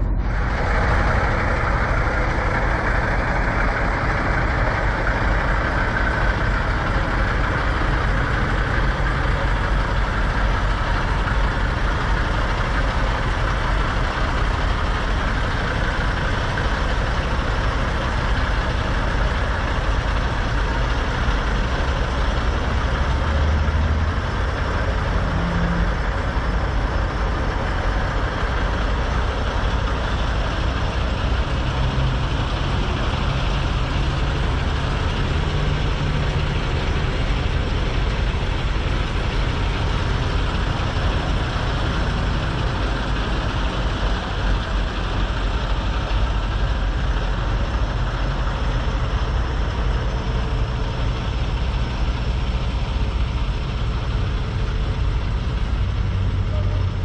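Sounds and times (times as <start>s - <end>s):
diesel truck engines idling: 0.0s - 57.0s.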